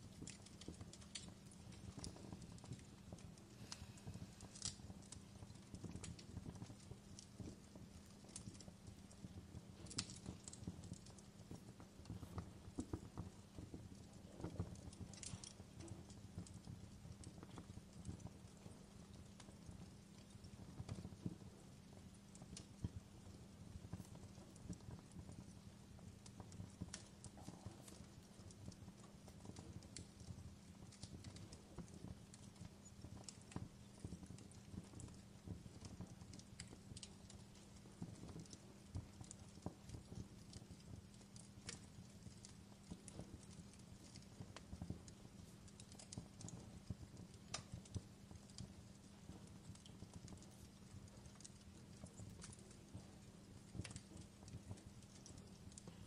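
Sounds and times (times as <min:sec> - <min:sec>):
log fire crackling and popping: 0:00.0 - 0:56.0.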